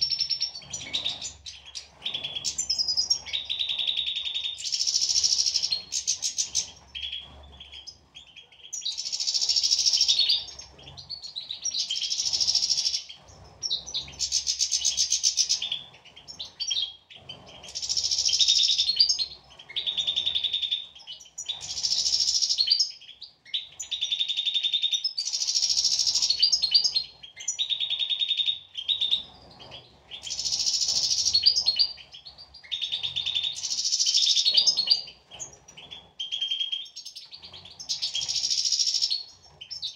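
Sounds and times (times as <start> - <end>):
bird singing trilled phrases: 0.0 - 39.9.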